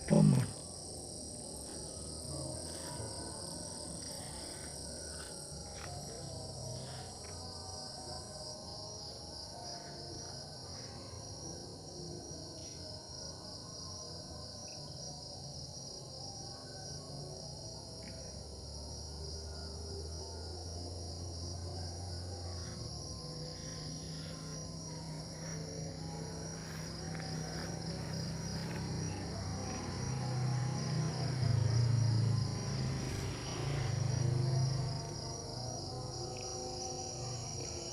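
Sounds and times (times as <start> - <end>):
crickets chirring: 0.0 - 37.9.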